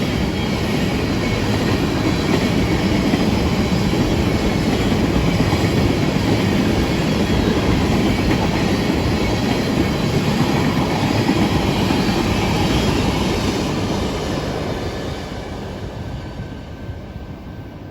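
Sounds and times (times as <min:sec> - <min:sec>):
train rumbling past: 0:00.0 - 0:17.9.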